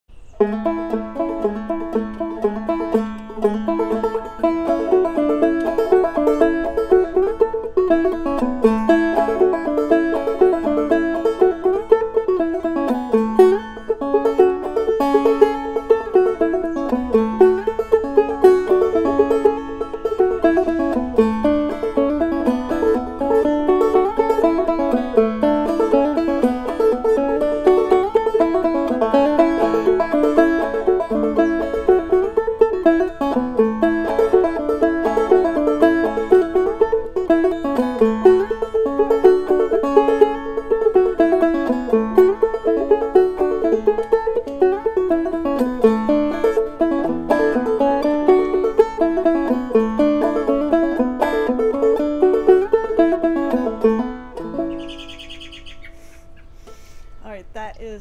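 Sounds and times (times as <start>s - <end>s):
banjo playing old-time tune: 0.1s - 57.6s.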